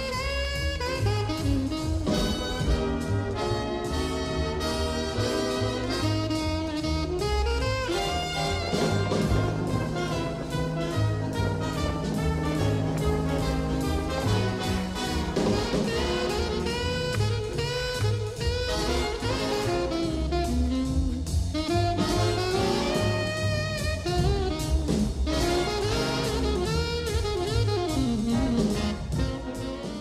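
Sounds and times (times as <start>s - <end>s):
bass: 0.0s - 30.0s
drums: 0.0s - 30.0s
horn melody: 0.0s - 30.0s.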